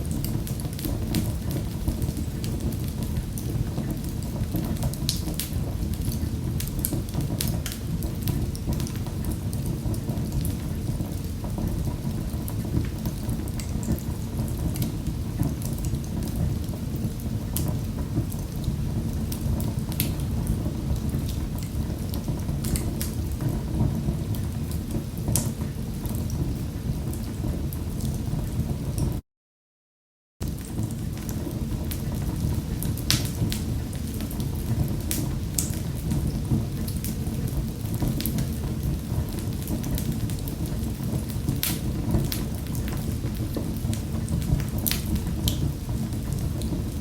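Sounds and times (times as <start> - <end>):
low rumble of burning: 0.0 - 29.2, 30.4 - 47.0
wood fire crackling and popping: 0.0 - 29.2, 30.4 - 47.0.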